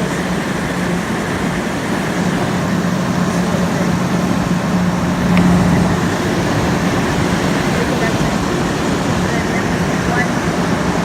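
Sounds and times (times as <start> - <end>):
air conditioner fan rushing: 0.0 - 11.0
compressor low hum: 0.0 - 11.0.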